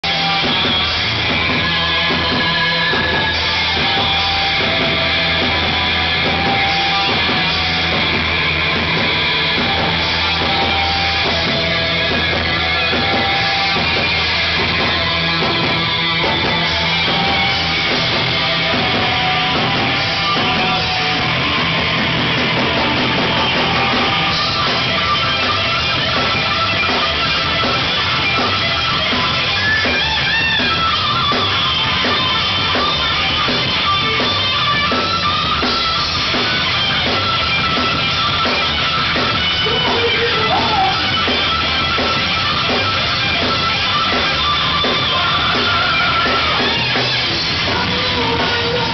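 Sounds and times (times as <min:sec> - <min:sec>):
heavy metal electric guitar solo: 0:00.0 - 0:48.9.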